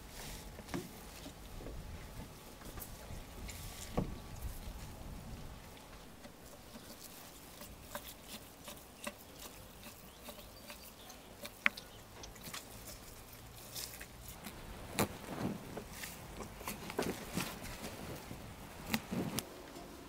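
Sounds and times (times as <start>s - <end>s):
soft handling of meat: 0.0s - 20.0s.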